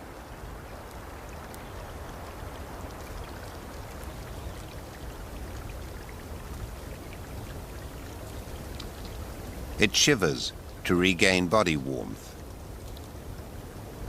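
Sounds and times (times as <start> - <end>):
water dripping: 0.0 - 14.0.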